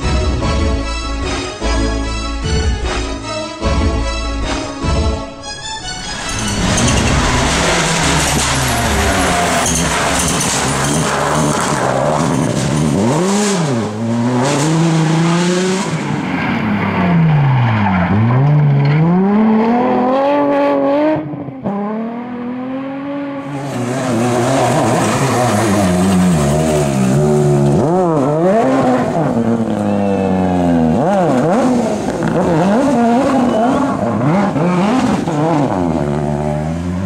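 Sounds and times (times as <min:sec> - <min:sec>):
rally car engines revving: 0:05.4 - 0:37.0.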